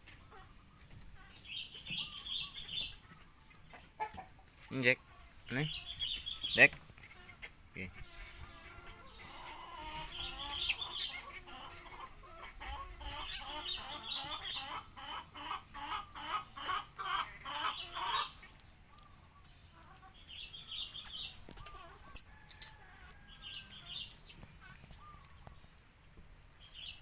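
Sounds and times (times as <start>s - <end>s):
chicken clucking: 0.0s - 26.2s.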